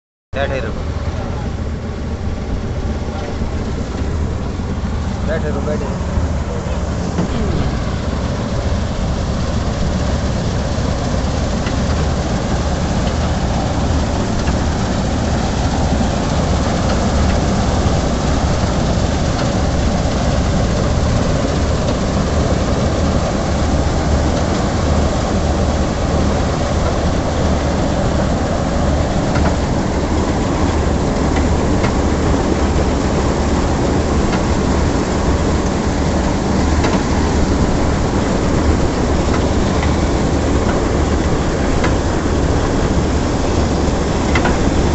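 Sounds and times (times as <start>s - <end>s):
combine harvester engine drone: 0.4s - 44.9s
cutting and threshing machinery: 2.9s - 44.9s.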